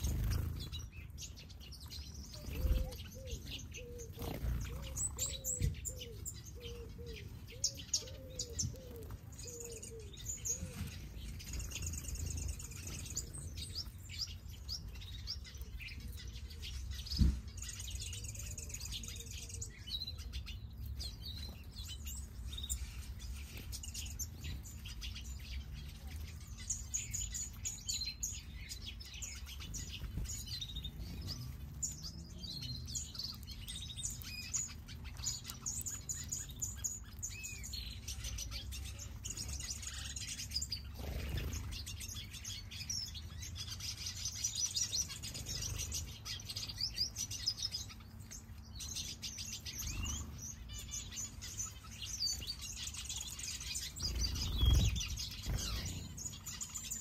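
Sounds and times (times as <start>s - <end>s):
finches chirping and twittering: 0.0s - 57.0s.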